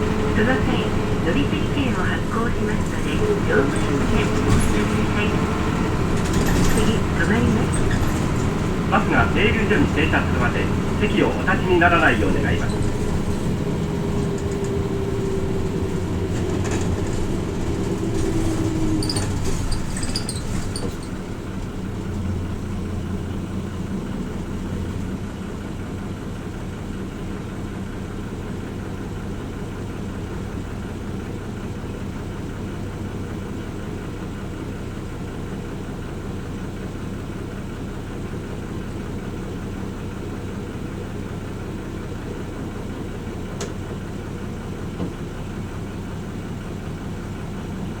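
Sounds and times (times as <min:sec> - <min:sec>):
bus slowing with falling whine: 0:00.0 - 0:48.0
diesel engine idling: 0:00.0 - 0:48.0.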